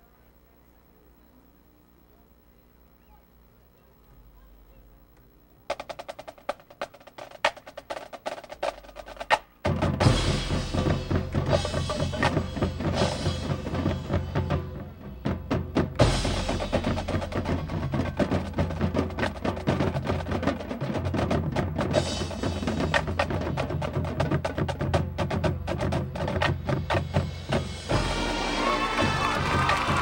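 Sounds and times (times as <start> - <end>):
marching band drumming: 5.7 - 30.0.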